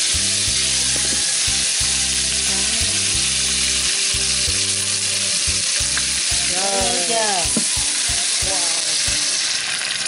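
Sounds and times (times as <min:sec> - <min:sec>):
meat sizzling in a pot: 0:00.0 - 0:10.0.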